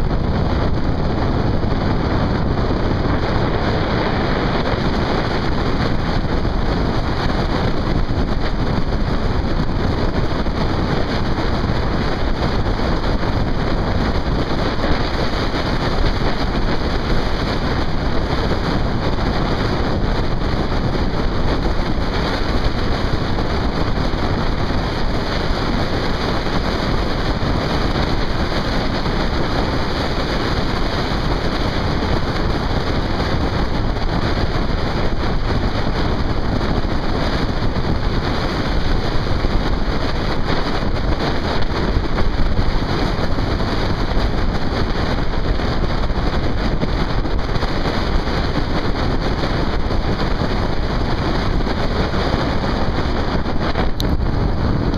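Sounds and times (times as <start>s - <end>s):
road and engine noise: 0.0s - 54.9s
wind rushing across microphone: 0.0s - 54.9s.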